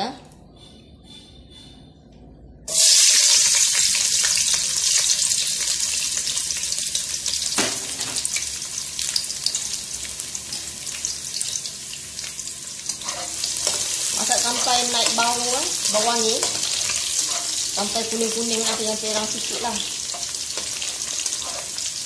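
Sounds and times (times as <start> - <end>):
food sizzling in hot oil: 2.7 - 22.0.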